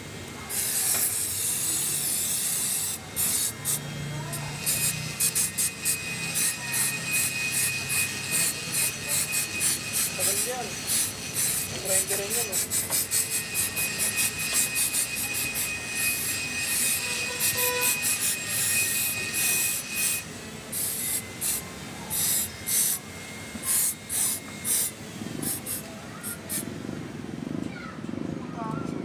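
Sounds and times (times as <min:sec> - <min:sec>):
aerosol spray hissing: 0:00.5 - 0:03.8, 0:04.4 - 0:15.7, 0:16.8 - 0:23.0, 0:23.6 - 0:26.7.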